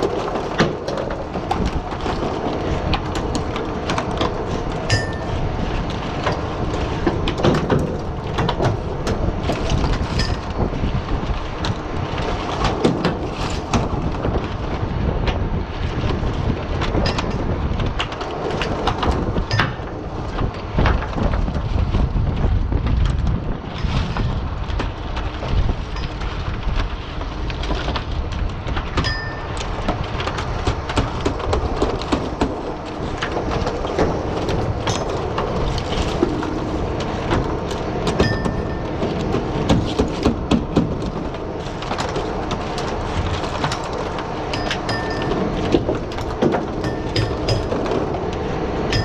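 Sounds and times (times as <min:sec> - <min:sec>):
low boat engine rumble: 0:00.0 - 0:49.0
wind on microphone: 0:00.0 - 0:49.0.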